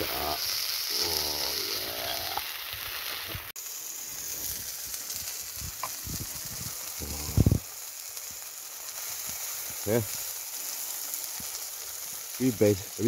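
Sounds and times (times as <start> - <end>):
meat sizzling over fire: 0.0 - 13.0.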